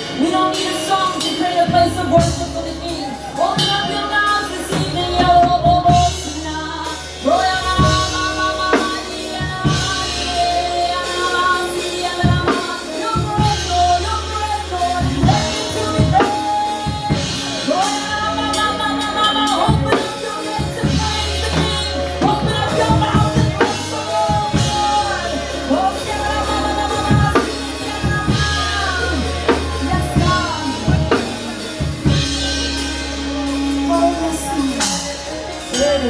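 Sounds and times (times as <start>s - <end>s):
drum kit: 0.0s - 36.0s
singers holding sliding notes: 0.0s - 36.0s
sustained bass: 0.0s - 36.0s.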